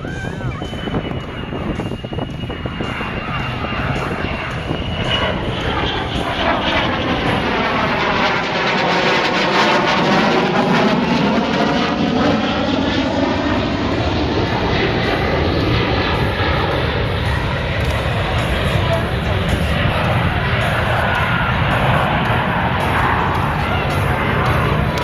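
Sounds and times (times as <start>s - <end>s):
jet aircraft flying past: 0.0s - 25.0s.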